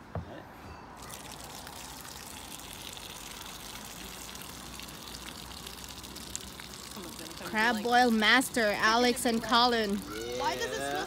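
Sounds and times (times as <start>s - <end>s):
hot water pouring out of pot: 1.0s - 11.0s.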